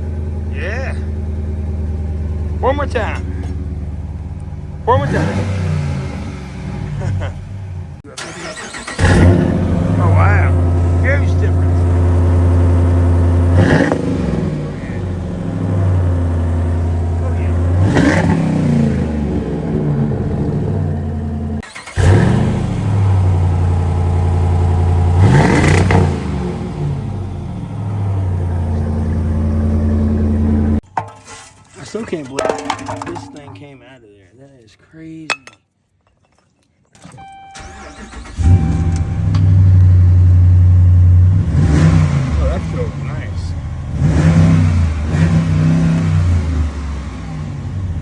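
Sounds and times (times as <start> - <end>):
car engine idling and revving: 0.0 - 30.8, 37.2 - 48.0.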